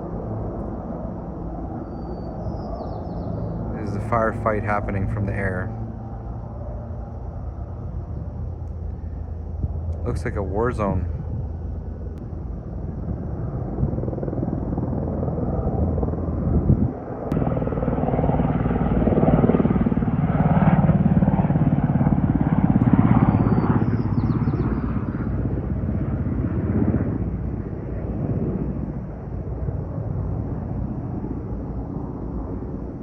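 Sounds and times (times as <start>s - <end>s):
helicopter rotor chop and engine: 0.0s - 33.0s.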